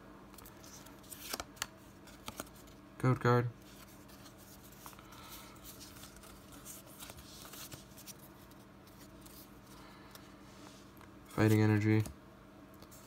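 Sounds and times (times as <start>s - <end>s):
faint low hum: 0.0s - 13.0s
trading cards rustling and clicking: 0.3s - 2.8s, 3.6s - 12.2s.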